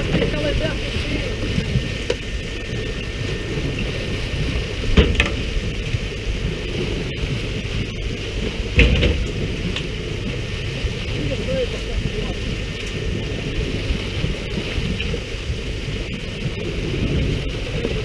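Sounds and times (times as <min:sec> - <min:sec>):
low boat engine rumble: 0:00.0 - 0:18.0
water splashing against hull: 0:00.0 - 0:18.0
wind on microphone: 0:00.0 - 0:18.0.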